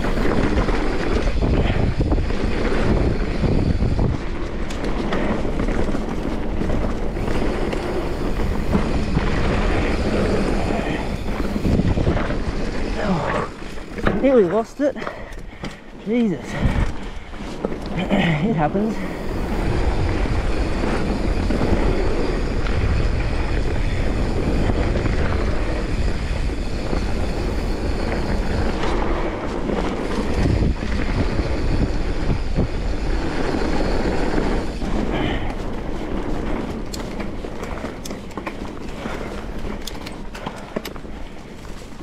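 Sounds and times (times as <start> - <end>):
bike rattling: 0.0 - 42.0
bike tyres rumbling on dirt: 0.0 - 42.0
wind on microphone: 0.0 - 42.0.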